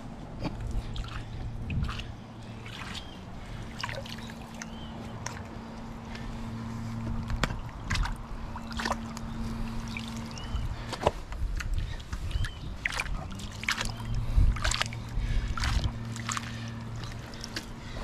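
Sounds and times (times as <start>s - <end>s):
low motor hum: 0.0s - 18.0s
water sloshing and splashing: 0.0s - 18.0s.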